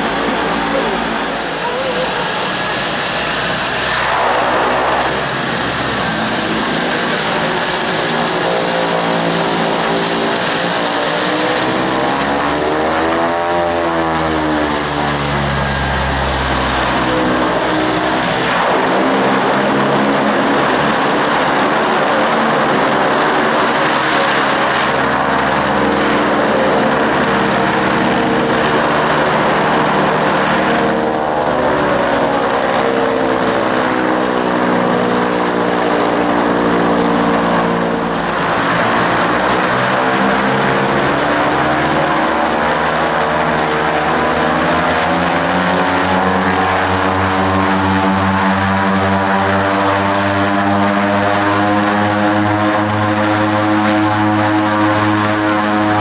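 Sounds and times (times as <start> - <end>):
turboprop engines with turbine whine: 0.0 - 56.0.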